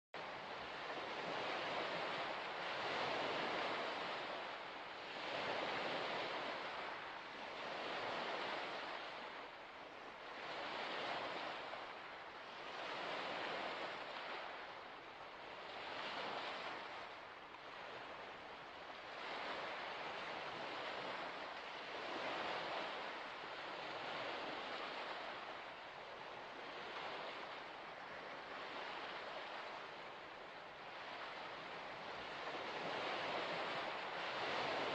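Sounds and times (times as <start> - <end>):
waves washing onto shore: 0.2 - 34.9.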